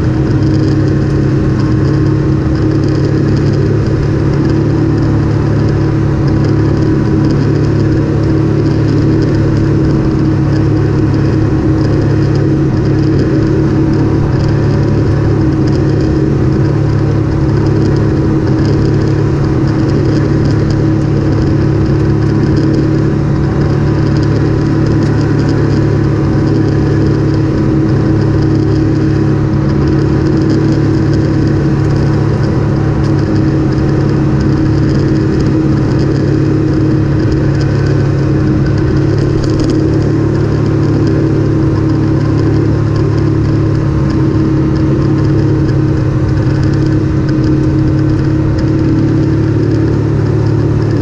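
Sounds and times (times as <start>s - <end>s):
off-road vehicle engine droning: 0.0s - 51.0s
tyre and wind noise: 0.0s - 51.0s.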